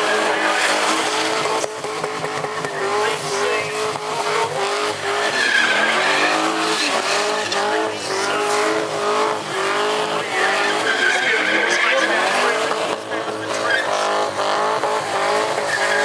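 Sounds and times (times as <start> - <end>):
car engine at high revs: 0.0 - 16.0
tyres screeching: 2.3 - 16.0.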